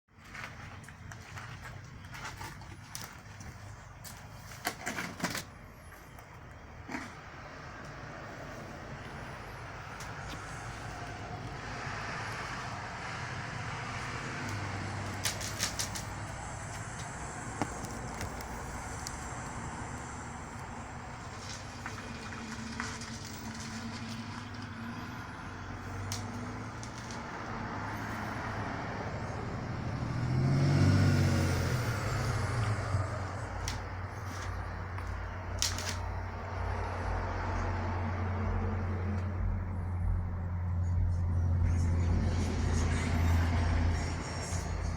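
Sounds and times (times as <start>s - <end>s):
road vehicle rumble: 0.1s - 44.9s
vehicle passing close by: 7.0s - 44.9s.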